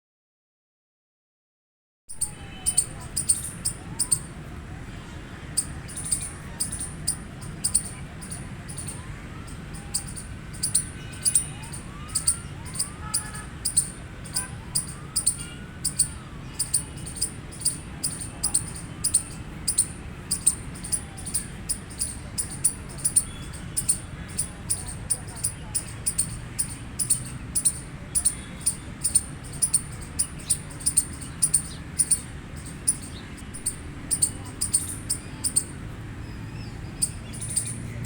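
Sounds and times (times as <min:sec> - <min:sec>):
squirrel chirping alarm call: 0:02.1 - 0:04.4, 0:05.5 - 0:38.0.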